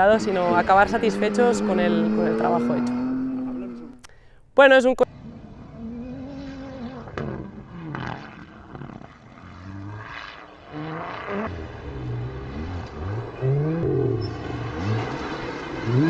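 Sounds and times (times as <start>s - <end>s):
car engine accelerating through gears: 0.0s - 4.0s, 5.1s - 16.0s.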